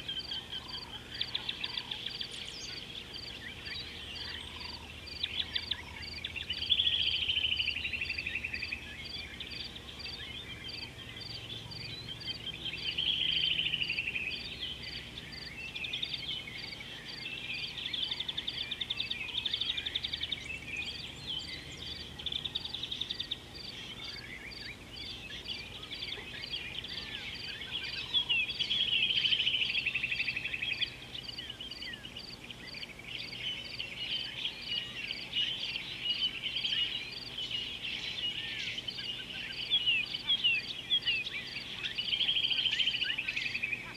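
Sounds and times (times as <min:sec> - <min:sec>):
insects calling: 0:00.0 - 0:43.9.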